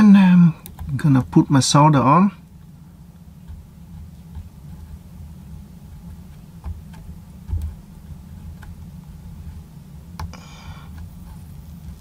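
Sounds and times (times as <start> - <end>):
solder ticks and crackles: 0.0 - 12.0
steady low hum: 0.0 - 12.0.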